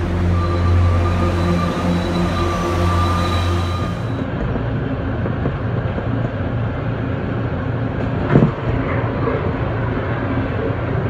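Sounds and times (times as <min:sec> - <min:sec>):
passing train rush: 0:00.0 - 0:11.0
train rumble from inside: 0:00.0 - 0:11.0.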